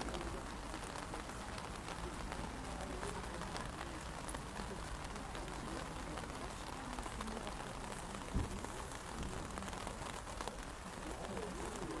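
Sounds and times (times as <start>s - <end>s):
rain on an umbrella: 0.0s - 12.0s.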